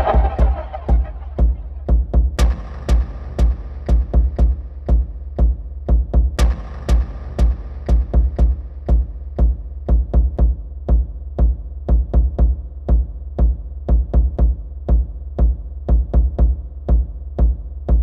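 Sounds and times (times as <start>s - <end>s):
heavy rhythmic impacts: 0.0s - 18.0s.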